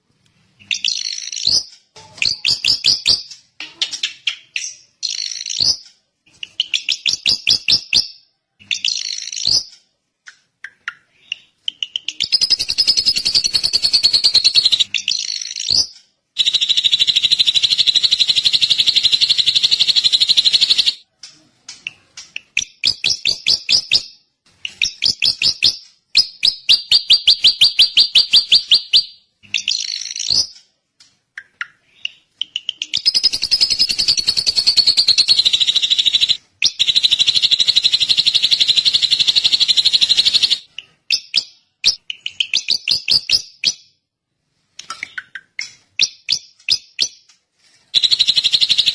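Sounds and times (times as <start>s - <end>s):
bird chirps and rapid trills: 0.6s - 21.0s, 21.9s - 30.6s, 31.4s - 44.0s, 47.9s - 48.9s.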